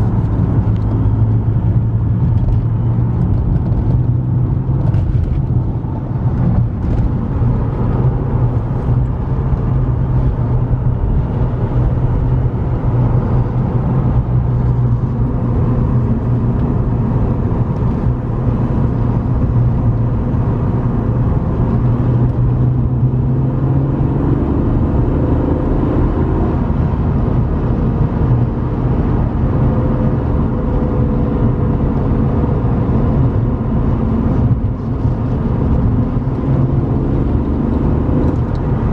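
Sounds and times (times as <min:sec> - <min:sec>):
car engine drone: 0:00.0 - 0:38.9
road noise: 0:00.0 - 0:38.9.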